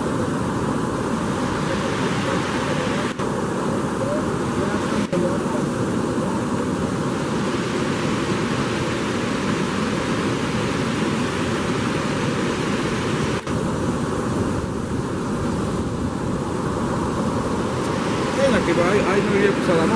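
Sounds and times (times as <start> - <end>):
floodwater rushing over spillway: 0.0 - 19.9.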